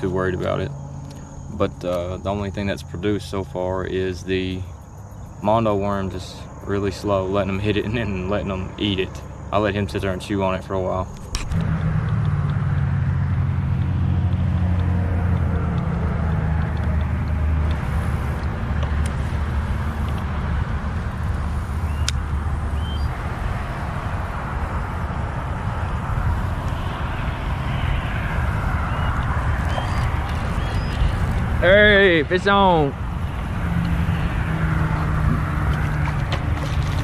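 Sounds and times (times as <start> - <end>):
highway traffic hum: 0.0 - 37.0.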